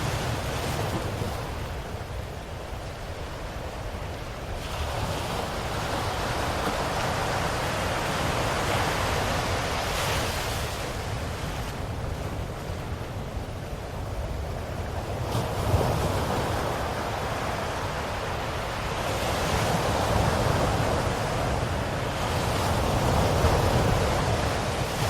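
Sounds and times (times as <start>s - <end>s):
ocean waves on shore: 0.0s - 25.0s.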